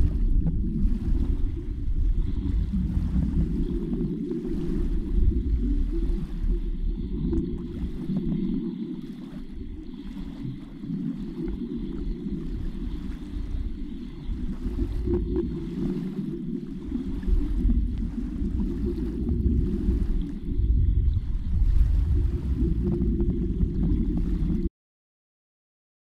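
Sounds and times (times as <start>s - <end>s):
underwater rumble: 0.0s - 24.7s.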